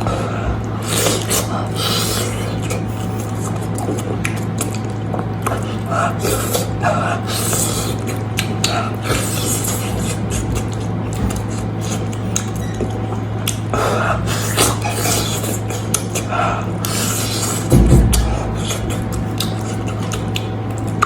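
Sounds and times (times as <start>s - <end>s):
steady low hum: 0.0s - 21.0s
wet chewing: 0.6s - 21.0s.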